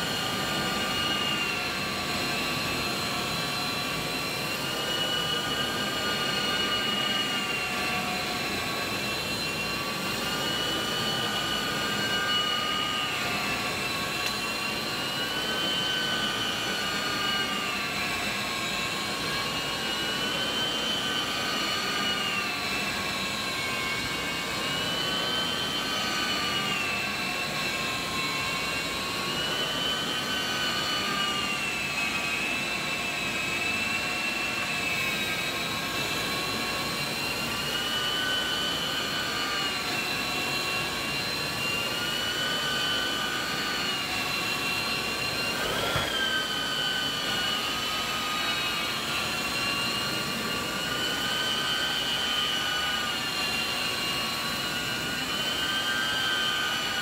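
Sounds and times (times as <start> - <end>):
carpet extractor suction whine: 0.0 - 57.0.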